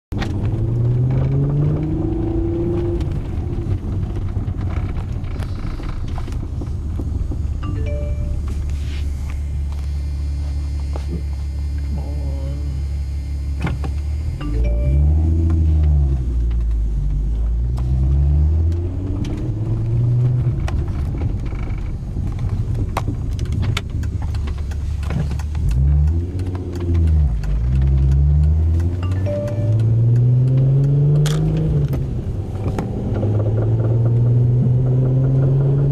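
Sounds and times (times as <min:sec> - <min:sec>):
car engine accelerating: 0:00.1 - 0:35.9.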